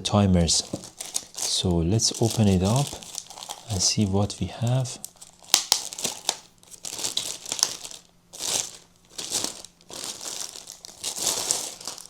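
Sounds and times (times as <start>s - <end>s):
packaging crinkling and rustling: 0.4s - 12.0s.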